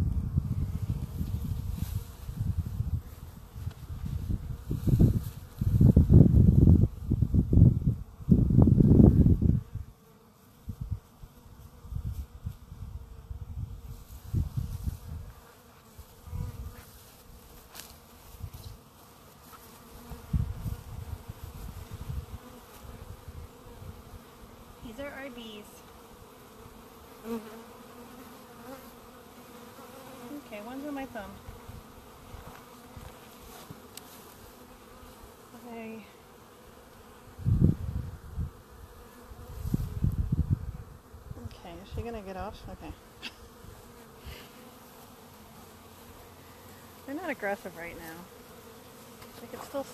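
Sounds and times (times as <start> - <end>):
honeybees buzzing: 0.0 - 49.9.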